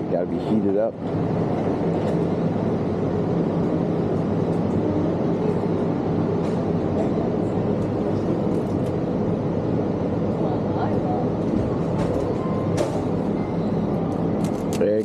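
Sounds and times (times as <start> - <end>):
refrigerator and ventilation hum: 0.0 - 15.0.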